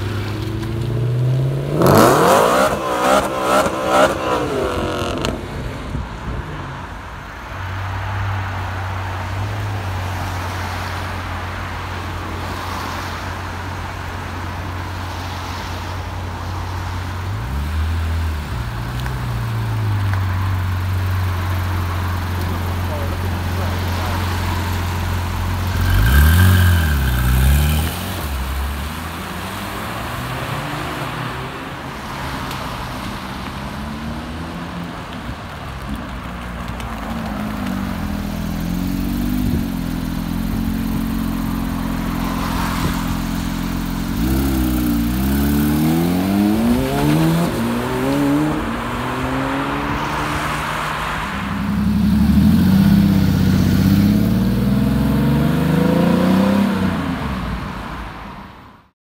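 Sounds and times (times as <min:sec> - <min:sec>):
car engines idling and revving: 0:00.0 - 0:58.9.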